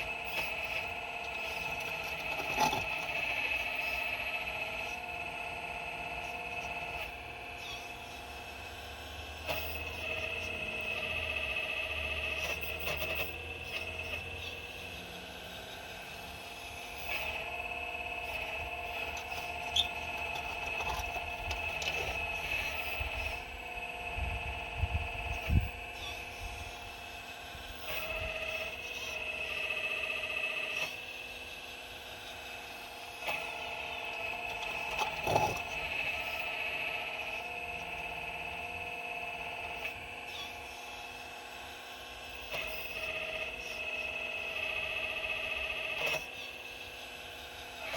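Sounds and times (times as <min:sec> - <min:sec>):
excavator motor whine: 0:00.0 - 0:47.9.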